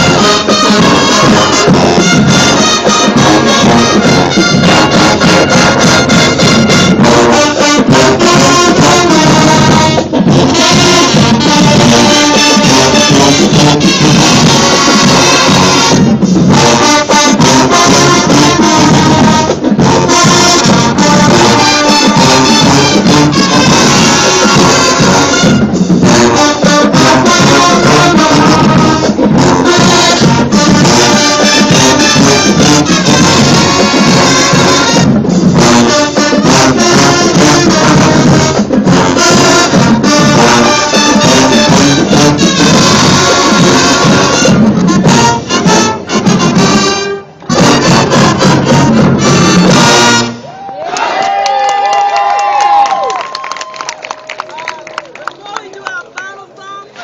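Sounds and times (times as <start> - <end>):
driving drums and percussion: 0.0 - 50.6
brass section: 0.0 - 53.4.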